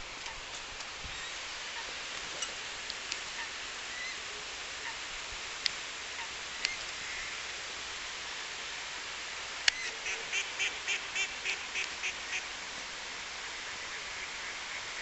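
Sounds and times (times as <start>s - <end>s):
water running over a spillway: 0.0s - 15.0s.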